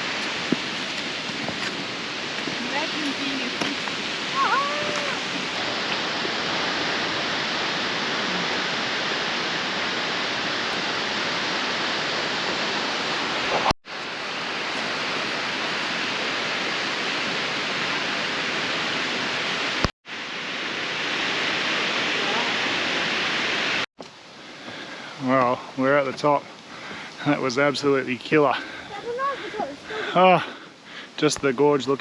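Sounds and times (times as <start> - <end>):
waterfall rushing: 0.0 - 23.9, 26.7 - 31.2.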